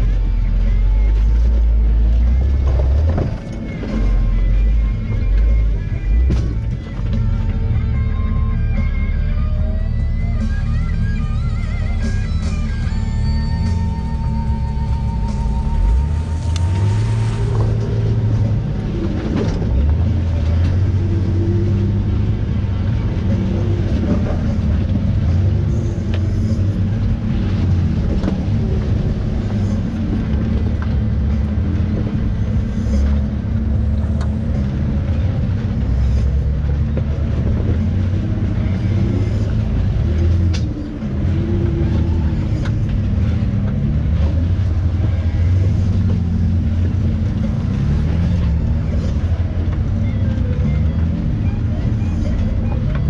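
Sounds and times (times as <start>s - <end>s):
vehicle engine at low revs: 0.0s - 53.0s.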